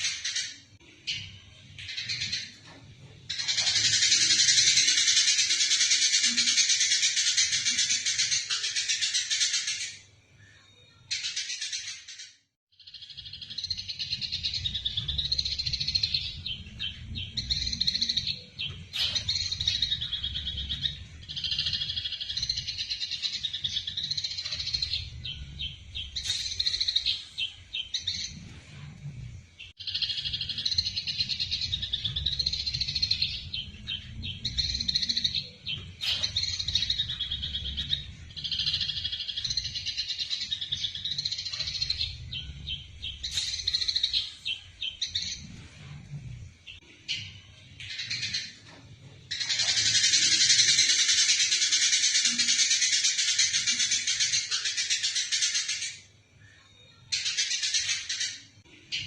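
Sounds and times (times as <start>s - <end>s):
sparrows fighting calls: 0.0s - 10.0s, 11.1s - 28.9s, 29.6s - 46.0s, 46.6s - 48.6s, 49.3s - 56.1s
sparrows chattering: 0.0s - 10.1s, 11.1s - 56.1s.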